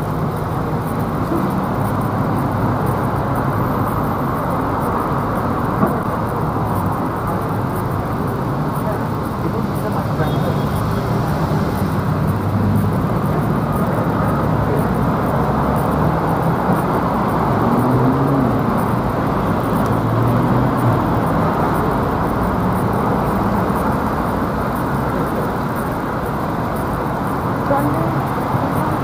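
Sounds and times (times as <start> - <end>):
city road traffic: 0.0 - 29.0.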